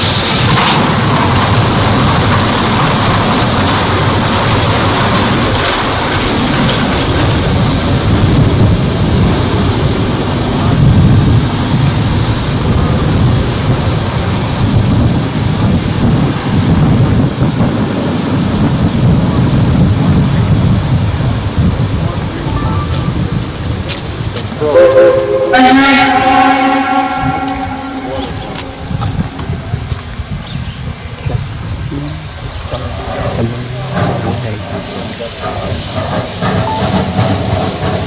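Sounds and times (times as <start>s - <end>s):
train rumbling: 0.0s - 38.0s
wheel flanges squealing on rails: 0.0s - 38.0s.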